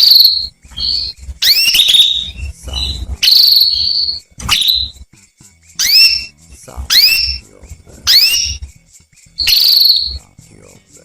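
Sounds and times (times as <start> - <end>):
canary calling: 0.0 - 10.9.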